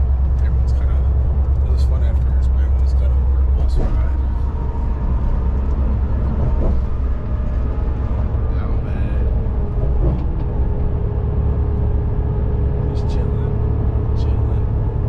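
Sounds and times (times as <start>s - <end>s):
bus engine and tyres rumbling: 0.0s - 15.0s
constant drone: 0.0s - 15.0s.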